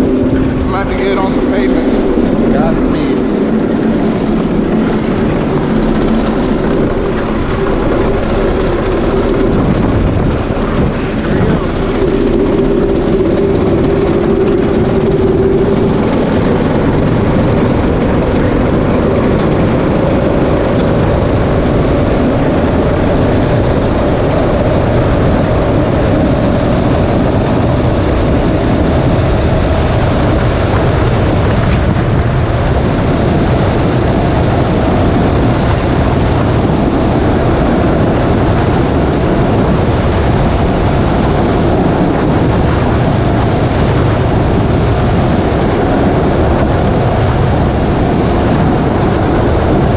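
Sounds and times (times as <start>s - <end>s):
go-kart engine at full throttle: 0.0s - 49.9s
wind noise on microphone: 0.0s - 49.9s.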